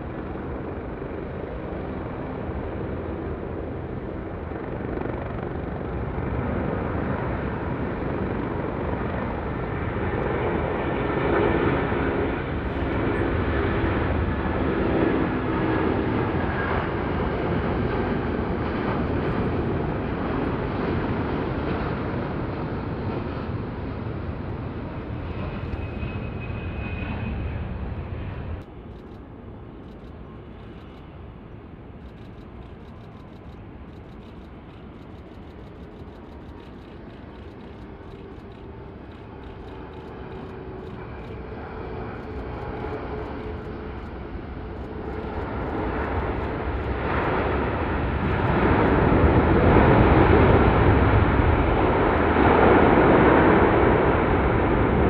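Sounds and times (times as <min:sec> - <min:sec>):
jet engine roar: 0:00.0 - 0:55.0.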